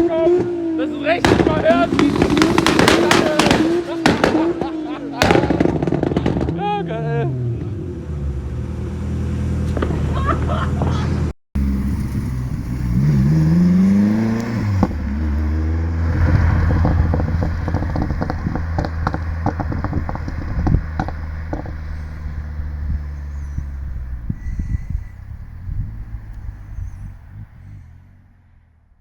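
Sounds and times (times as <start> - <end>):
exhaust crackles and pops: 0.0 - 6.8, 9.6 - 28.2
car engine revving: 0.0 - 29.0.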